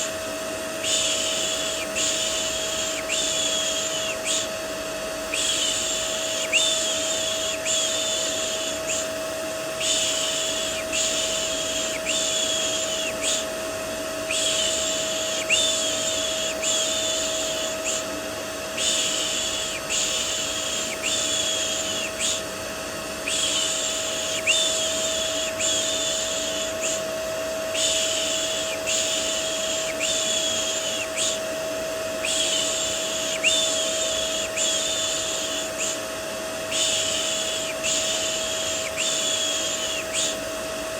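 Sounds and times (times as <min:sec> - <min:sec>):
vacuum cleaner white noise: 0:00.0 - 0:40.9.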